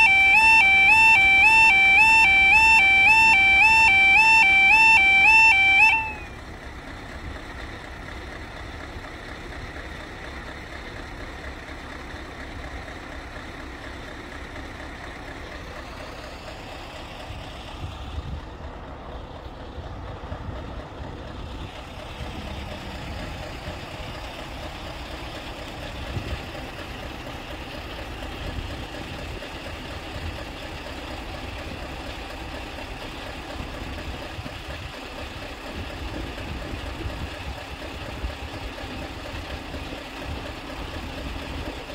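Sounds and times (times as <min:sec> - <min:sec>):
vehicles idling: 0:00.0 - 0:41.9.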